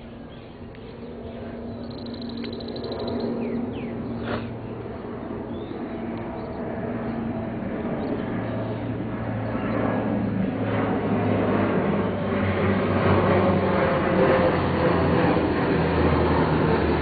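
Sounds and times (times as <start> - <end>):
low hum: 0.0 - 17.0
outdoor background rumble: 0.0 - 17.0.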